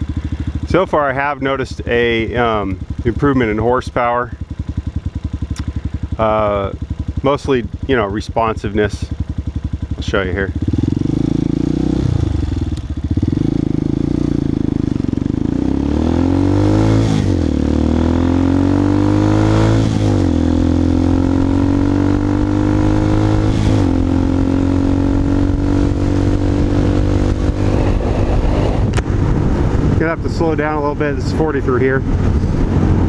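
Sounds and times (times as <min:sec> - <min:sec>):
motorcycle accelerating: 0:00.0 - 0:33.0.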